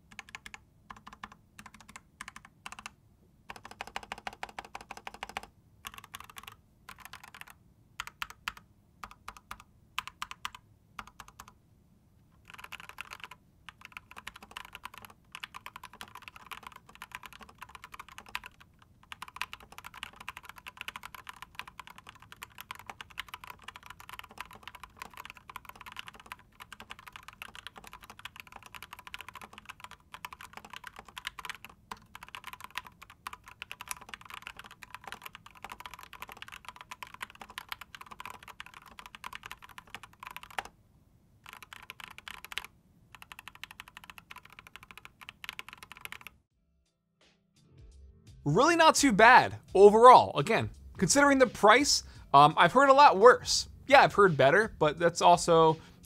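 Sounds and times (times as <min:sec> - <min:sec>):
mechanical keyboard typing: 0:00.0 - 0:11.6, 0:12.4 - 0:40.8, 0:41.4 - 0:46.4.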